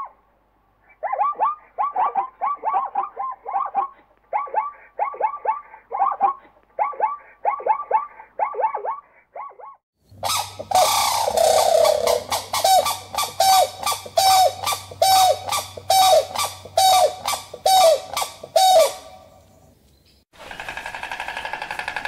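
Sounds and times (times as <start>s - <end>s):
animal giving harsh calls: 1.0s - 19.1s.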